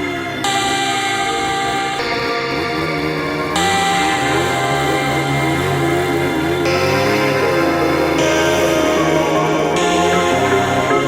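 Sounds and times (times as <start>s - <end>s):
sustained synth chords: 0.0s - 11.0s.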